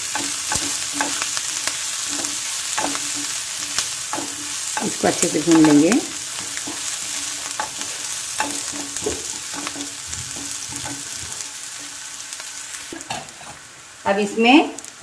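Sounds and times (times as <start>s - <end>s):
spatula tapping pan: 0.0s - 12.0s
spatula scraping pan: 0.0s - 13.7s
onions sizzling in pan: 0.0s - 15.0s.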